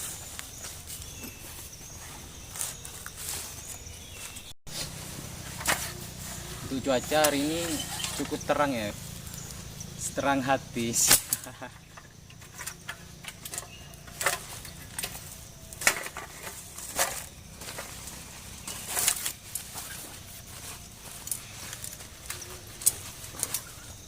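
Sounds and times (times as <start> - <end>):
faint outdoor background: 0.0 - 24.0.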